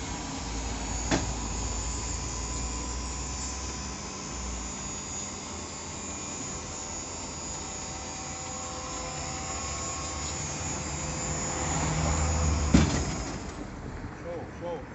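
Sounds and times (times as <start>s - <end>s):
vehicle engine and road noise: 0.0s - 6.6s, 7.6s - 14.9s.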